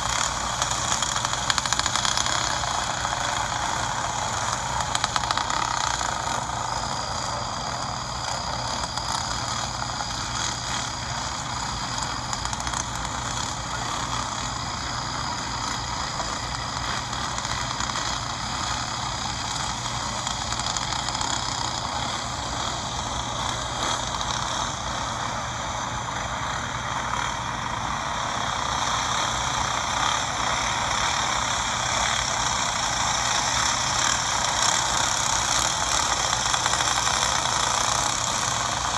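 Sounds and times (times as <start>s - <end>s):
go-kart engines buzzing: 0.0s - 38.9s.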